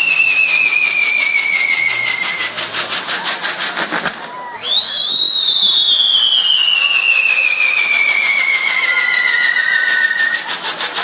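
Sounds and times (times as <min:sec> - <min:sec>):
whistling firework: 0:00.0 - 0:11.0.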